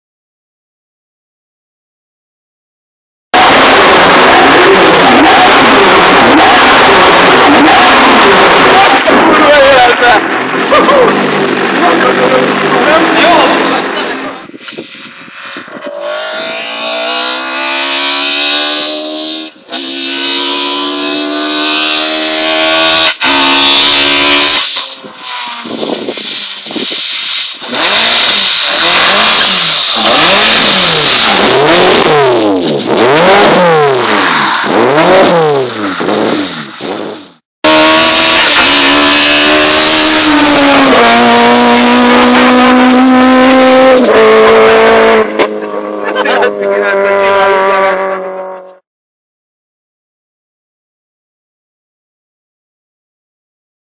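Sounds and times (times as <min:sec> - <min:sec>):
car engine revving: 0:03.4 - 0:14.5, 0:15.7 - 0:48.8.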